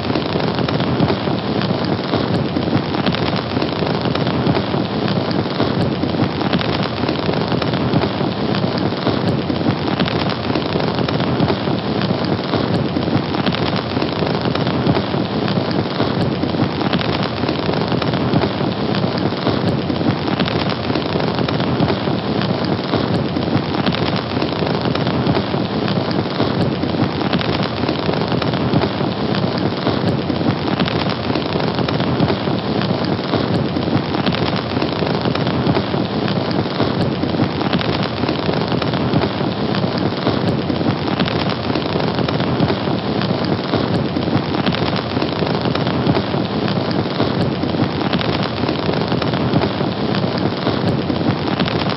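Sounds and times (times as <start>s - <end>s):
fire burning with crackling: 0.0s - 51.9s.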